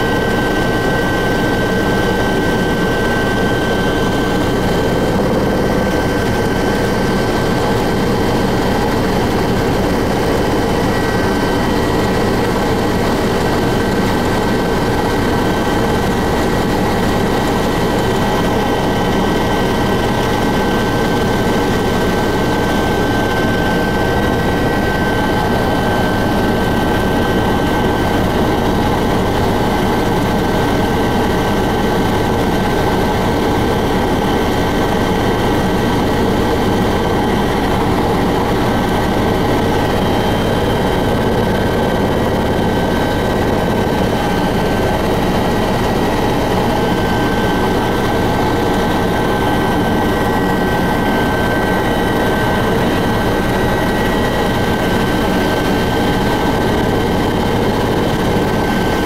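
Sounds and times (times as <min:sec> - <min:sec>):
helicopter engine and rotor din: 0:00.0 - 0:59.0.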